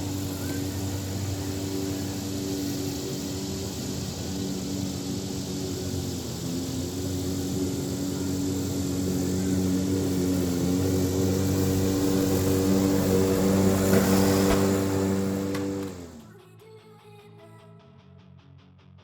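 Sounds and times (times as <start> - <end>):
electric lawn mower running: 0.0 - 16.3.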